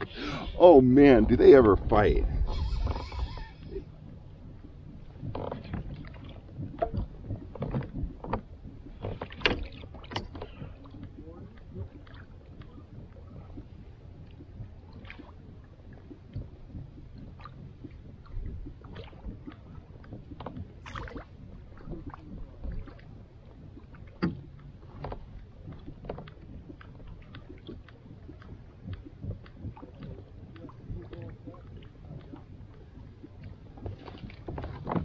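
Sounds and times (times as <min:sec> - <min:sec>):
water and wind rumble: 0:00.0 - 0:35.0.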